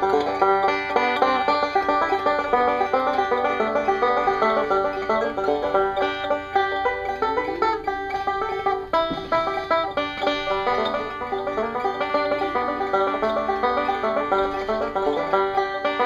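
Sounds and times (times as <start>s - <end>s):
bluegrass banjo music: 0.0s - 16.0s.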